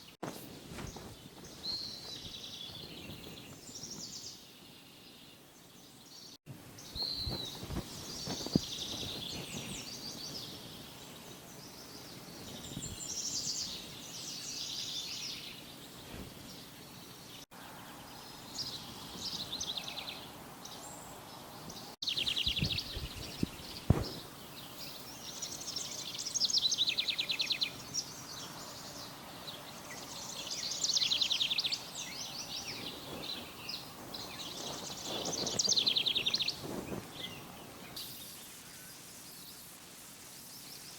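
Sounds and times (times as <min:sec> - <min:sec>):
outdoor background hiss: 0:00.0 - 0:40.9.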